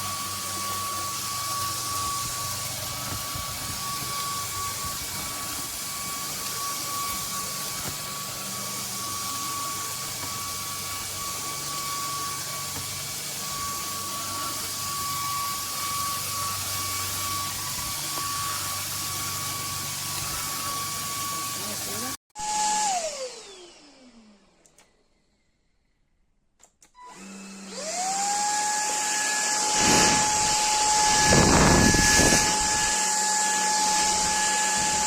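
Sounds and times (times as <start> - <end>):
stick vacuum running: 0.0 - 25.1, 27.1 - 35.0.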